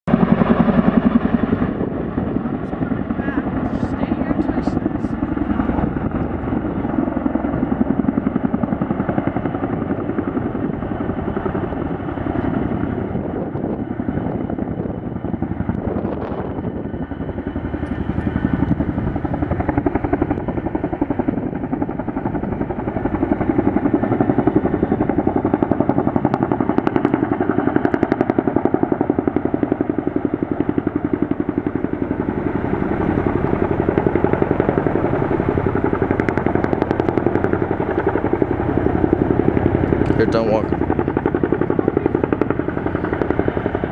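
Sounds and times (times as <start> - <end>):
helicopter rotors beating: 0.0 - 43.9.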